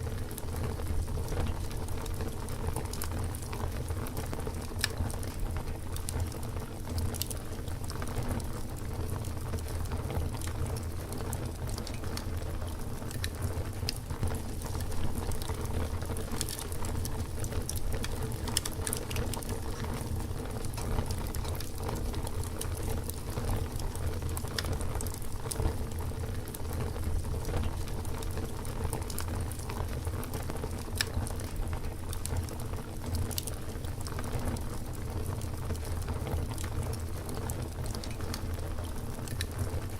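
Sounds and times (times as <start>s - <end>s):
campfire burning: 0.0s - 39.9s
wood crackling and popping: 0.0s - 39.9s.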